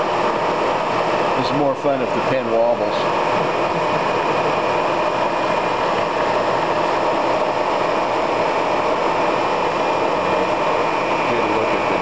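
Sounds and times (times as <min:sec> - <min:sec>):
milling machine whirring: 0:00.0 - 0:12.0
faint high whine: 0:01.2 - 0:12.0.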